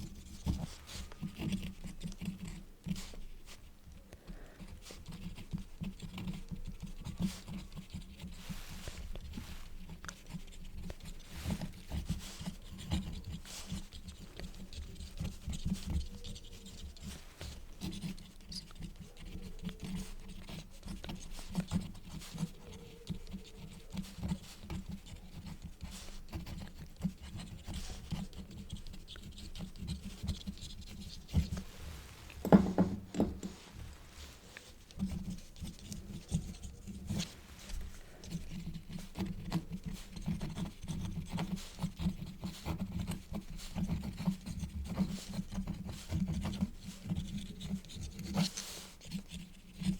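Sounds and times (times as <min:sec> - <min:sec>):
quill pen scratching on paper: 0:00.0 - 0:03.7, 0:04.6 - 0:49.9.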